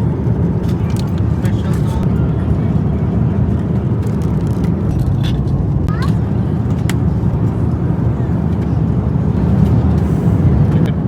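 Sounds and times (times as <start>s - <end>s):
voices in cabin: 0.0s - 4.9s, 5.9s - 11.0s
airliner cabin roar: 0.0s - 11.0s.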